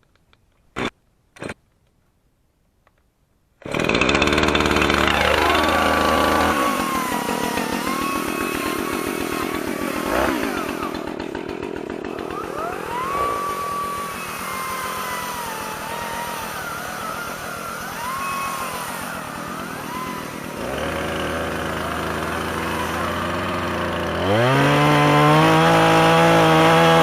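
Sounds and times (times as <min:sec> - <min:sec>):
chainsaw revving: 0:03.6 - 0:27.0.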